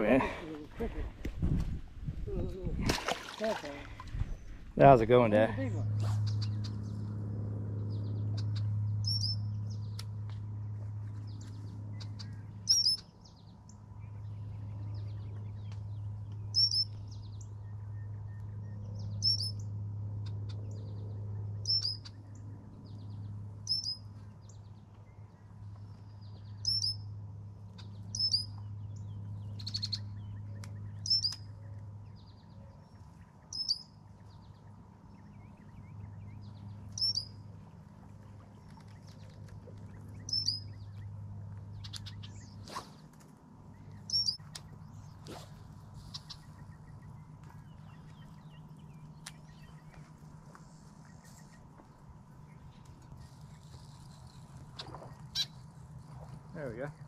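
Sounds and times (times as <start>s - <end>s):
steady low hum: 0.0s - 57.0s
bird chirping: 6.2s - 7.0s, 7.9s - 10.2s, 11.2s - 27.1s, 27.7s - 43.0s, 43.7s - 55.6s.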